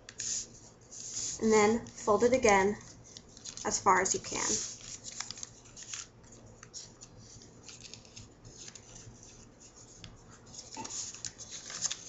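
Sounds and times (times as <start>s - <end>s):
paper rustling and crackling: 0.2s - 12.0s.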